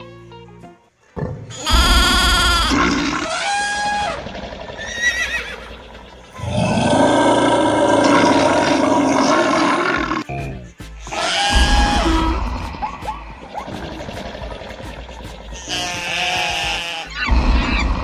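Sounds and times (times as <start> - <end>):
animal cries: 1.5 - 10.3, 11.0 - 14.6, 15.5 - 18.0
long loud animal call: 1.5 - 10.3, 11.1 - 18.0.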